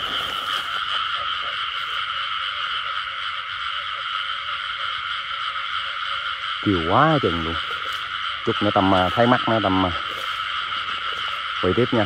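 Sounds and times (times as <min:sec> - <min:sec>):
frog chorus drone: 0:00.0 - 0:12.0
low frog croaks: 0:00.0 - 0:12.0.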